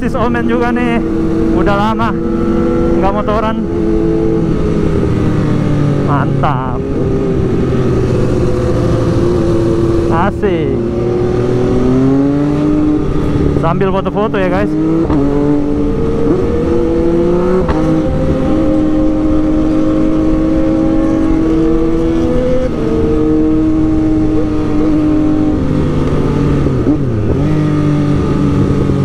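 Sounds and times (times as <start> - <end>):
motorcycle engine: 0.0 - 29.0
wind and road noise: 0.0 - 29.0.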